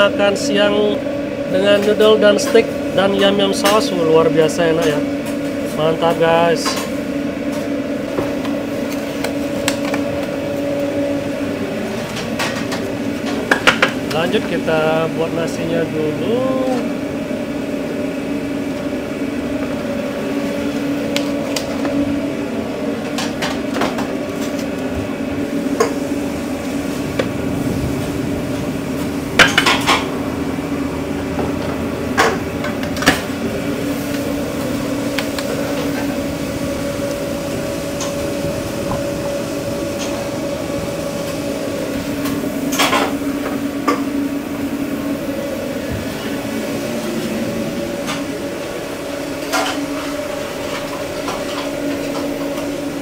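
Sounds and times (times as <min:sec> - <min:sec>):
kitchen equipment hum: 0:00.0 - 0:53.0.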